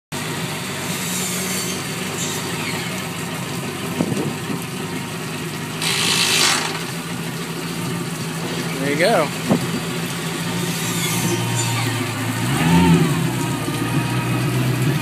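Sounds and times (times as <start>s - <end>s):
propeller churning water: 0.1s - 15.0s
boat engine idling: 0.2s - 15.0s
water splashing on pavement: 1.8s - 15.0s.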